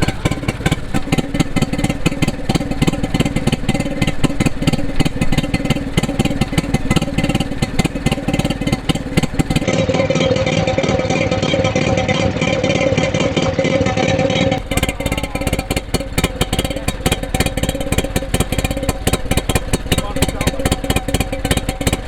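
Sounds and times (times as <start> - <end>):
two-stroke marine engine running: 0.0 - 22.0.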